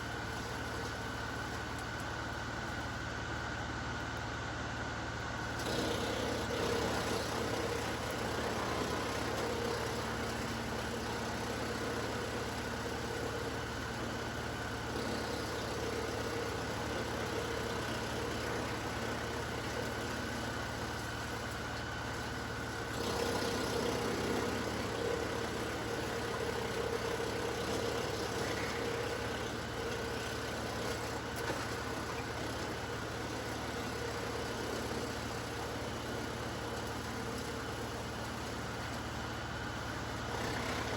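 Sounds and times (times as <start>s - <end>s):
tractor diesel engine: 0.0s - 40.9s
wood chipper running: 0.0s - 40.9s.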